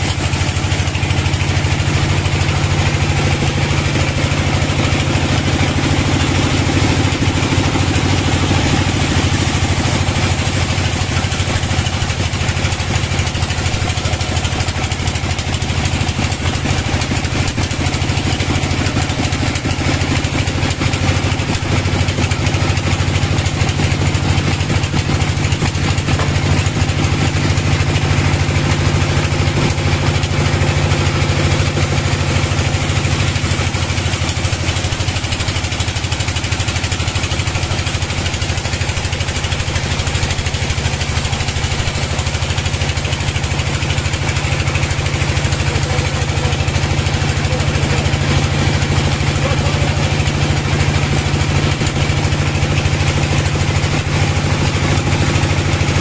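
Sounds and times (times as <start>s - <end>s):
band sawmill cutting log: 0.0s - 56.0s.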